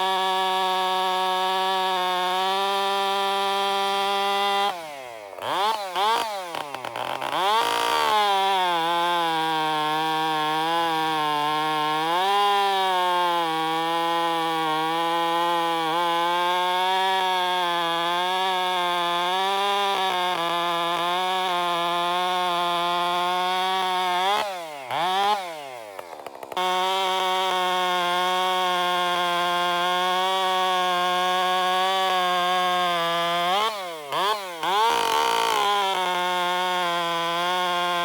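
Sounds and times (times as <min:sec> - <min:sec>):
chainsaw running at high throttle: 0:00.0 - 0:38.0.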